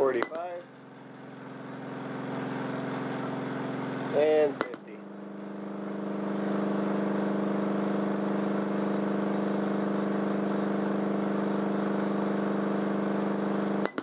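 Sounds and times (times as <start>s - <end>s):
buzzy low subwoofer hum: 0.0s - 13.8s.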